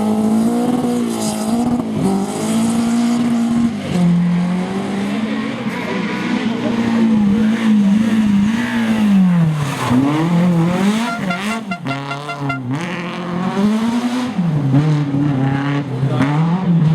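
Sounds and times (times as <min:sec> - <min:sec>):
rally car engine revving: 0:00.0 - 0:16.9.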